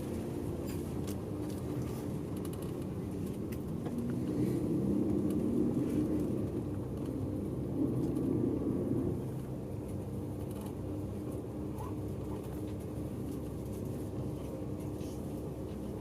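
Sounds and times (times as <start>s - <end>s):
bus engine low drone: 0.0s - 16.0s.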